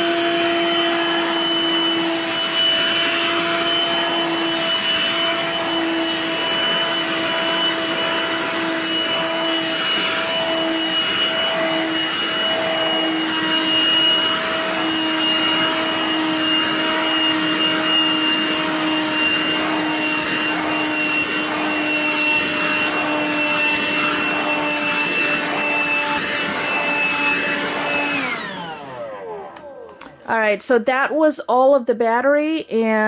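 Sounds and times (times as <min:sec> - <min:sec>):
hand vacuum motor whine: 0:00.0 - 0:30.4.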